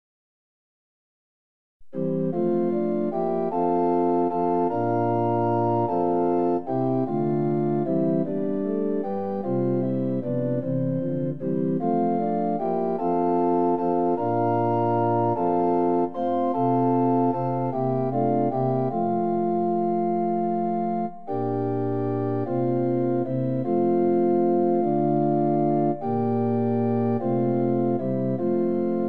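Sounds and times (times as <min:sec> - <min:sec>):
organ playing sustained chords: 0:02.0 - 0:29.0.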